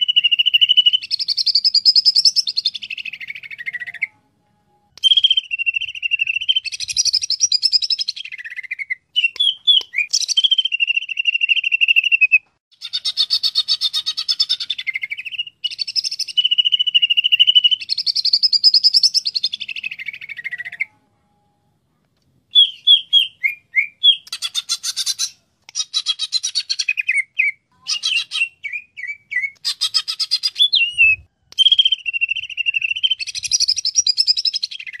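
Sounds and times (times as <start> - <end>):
bird singing whistles and trills: 0.0 - 4.2, 4.8 - 21.0, 22.5 - 35.0.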